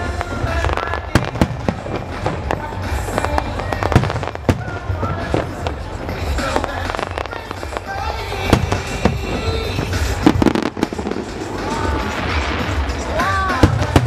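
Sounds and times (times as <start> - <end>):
fireworks bangs: 0.0 - 14.0
music: 0.0 - 14.0.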